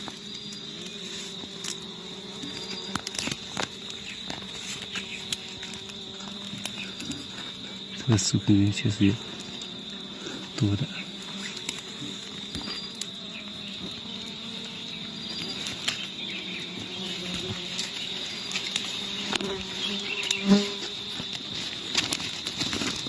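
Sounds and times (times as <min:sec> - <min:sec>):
high-pitched insect trill: 0:00.0 - 0:23.0
wasps buzzing: 0:00.0 - 0:23.0.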